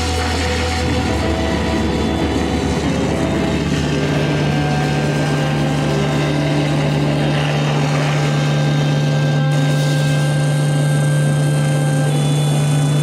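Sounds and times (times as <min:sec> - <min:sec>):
band playing droning notes: 0:00.0 - 0:13.0.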